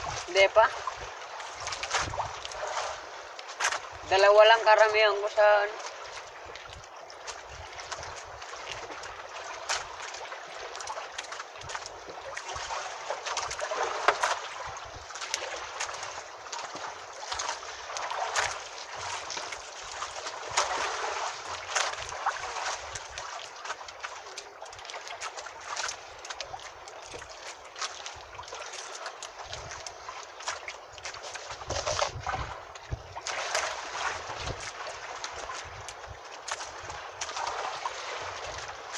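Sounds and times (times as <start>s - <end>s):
small splashes and knocks: 0.0s - 38.9s
water lapping against boat hull: 0.0s - 38.9s.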